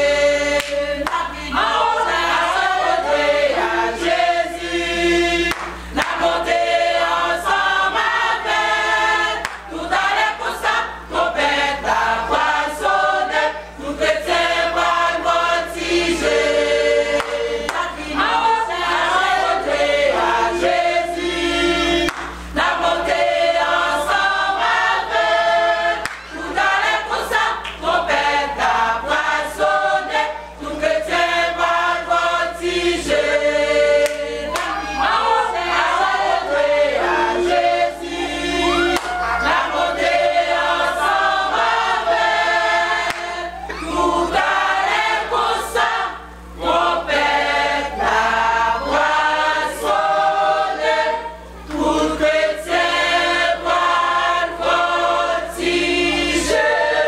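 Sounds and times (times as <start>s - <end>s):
women's choir singing gospel: 0.0s - 57.0s.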